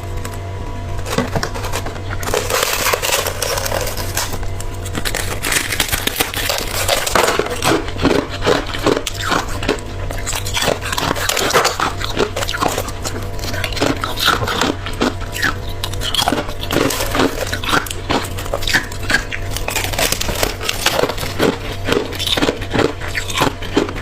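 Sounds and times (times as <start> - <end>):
frozen ice crunching: 1.0 - 24.0.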